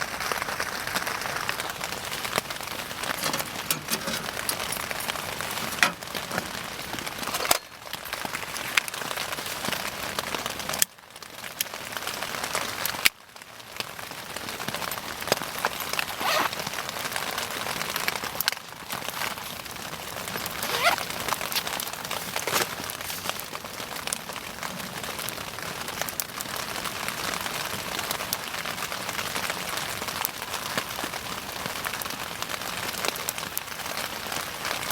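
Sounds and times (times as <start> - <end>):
bonfire crackling and popping: 0.0 - 34.9.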